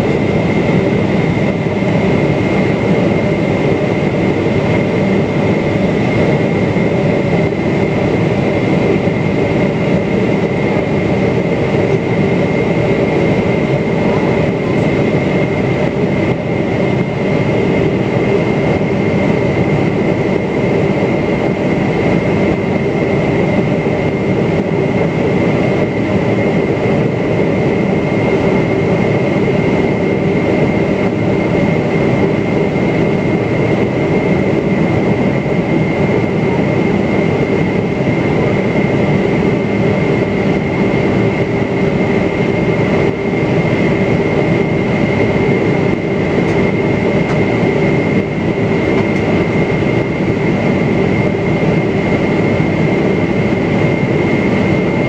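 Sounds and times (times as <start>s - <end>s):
airplane cabin air rush: 0.0s - 55.0s
high whine: 0.0s - 55.0s
jet engines droning: 0.0s - 55.0s.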